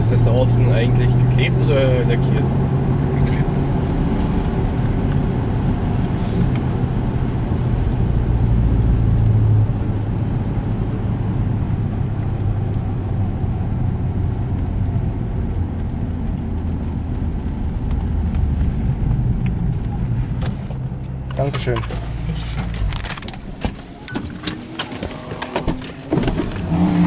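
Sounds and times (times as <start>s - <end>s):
car engine drone from cabin: 0.0s - 27.0s.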